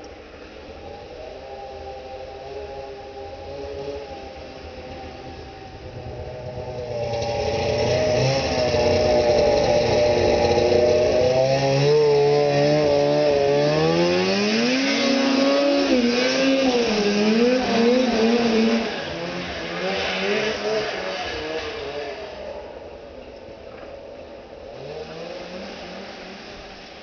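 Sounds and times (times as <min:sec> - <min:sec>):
snowmobile engine revving: 0:00.2 - 0:22.8, 0:24.6 - 0:27.0.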